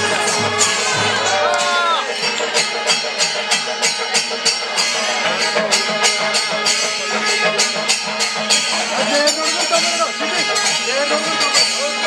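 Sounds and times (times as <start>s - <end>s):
sustained melodic tones: 2.0s - 12.0s.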